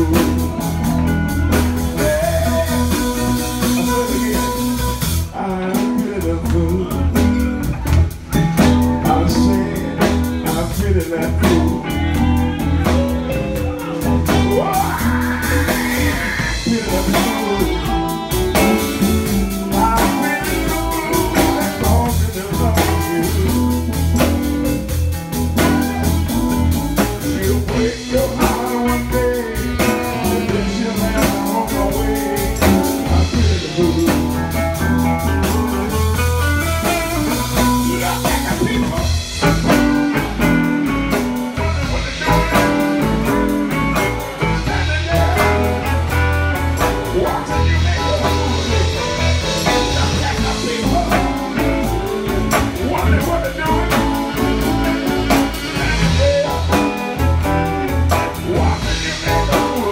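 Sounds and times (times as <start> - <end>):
drum kit: 0.0 - 59.9
electric guitar: 0.0 - 59.9.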